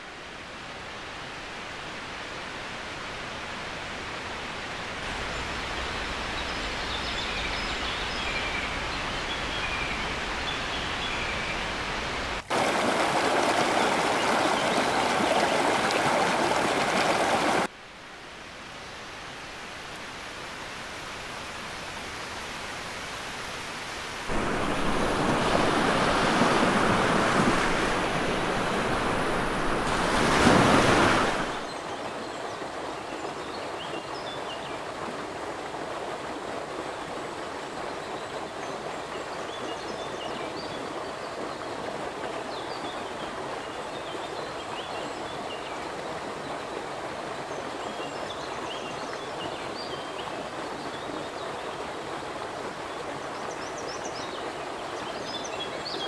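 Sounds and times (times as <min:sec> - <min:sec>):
stream water rushing over rocks: 0:00.0 - 0:17.7, 0:19.4 - 0:56.0.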